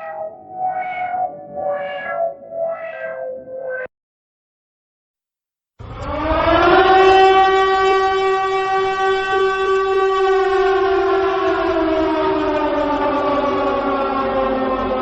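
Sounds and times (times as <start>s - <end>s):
siren wailing: 0.0s - 3.9s, 5.8s - 15.0s.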